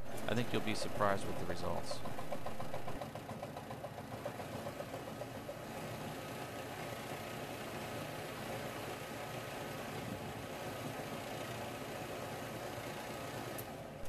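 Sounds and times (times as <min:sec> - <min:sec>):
bowling ball whirring on rollers: 0:00.0 - 0:14.0.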